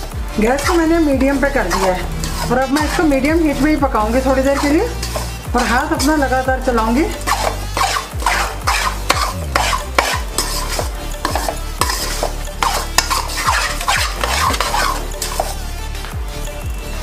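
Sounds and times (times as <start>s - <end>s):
spatula scraping metal pan: 0.0s - 15.8s
ghee sizzling: 0.0s - 16.0s.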